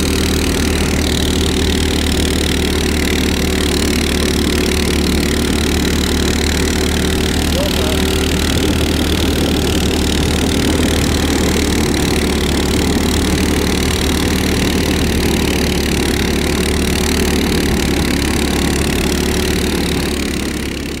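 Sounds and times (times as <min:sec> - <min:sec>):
small engine running steadily: 0:00.0 - 0:21.0.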